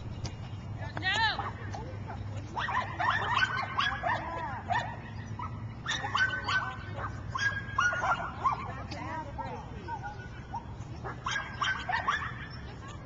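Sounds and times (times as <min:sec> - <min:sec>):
dog yipping: 0:01.4 - 0:13.0.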